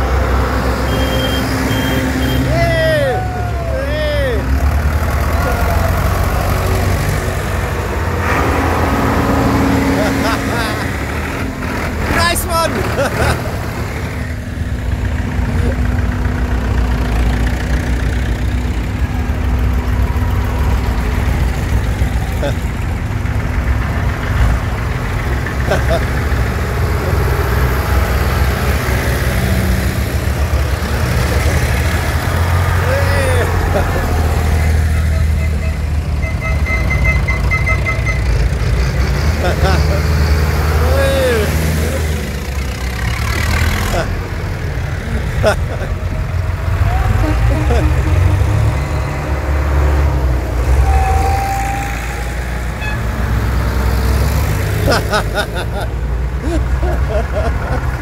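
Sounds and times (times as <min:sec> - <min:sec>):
tractor engines droning: 0:00.0 - 0:58.0.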